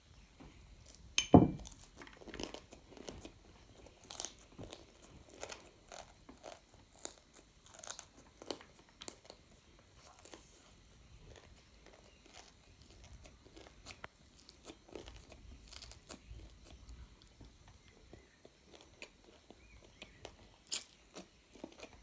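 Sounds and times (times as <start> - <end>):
child chewing and slurping noodles: 0.0 - 22.0.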